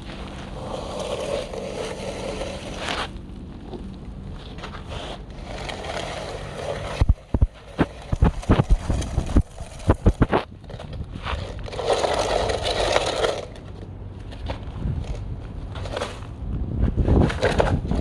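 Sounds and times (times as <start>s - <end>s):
rushing scrape of soil: 0.0s - 3.3s, 4.2s - 18.0s.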